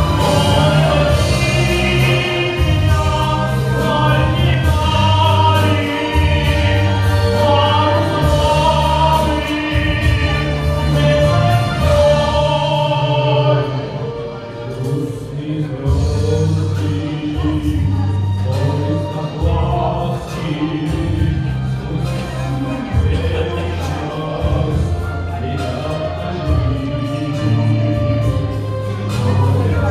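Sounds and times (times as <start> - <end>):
sustained bass notes: 0.0 - 29.9.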